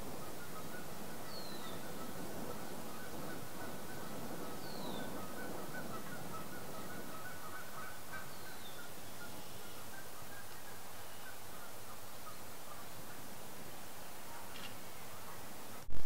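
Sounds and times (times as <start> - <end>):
birds chattering: 0.0 - 13.4
breeze rushing: 0.0 - 16.0.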